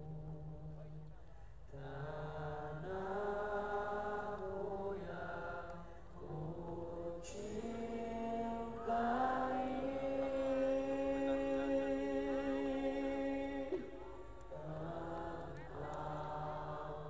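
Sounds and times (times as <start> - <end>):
devotional singing over pa: 0.0 - 17.0.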